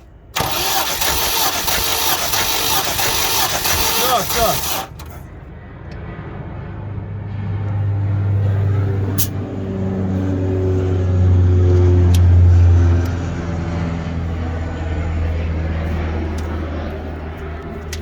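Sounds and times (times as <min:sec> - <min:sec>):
petrol engine running: 0:00.0 - 0:06.0, 0:07.6 - 0:18.0.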